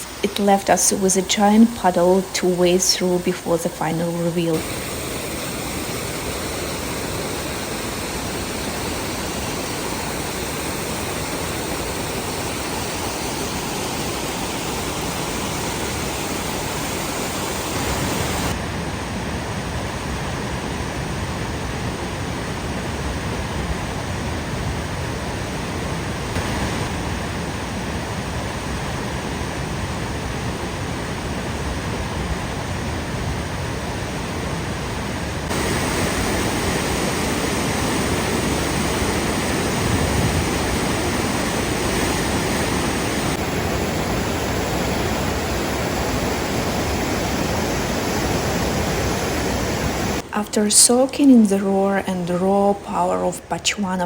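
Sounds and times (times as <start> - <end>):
waterfall roaring: 0.0 - 21.3, 26.2 - 51.6.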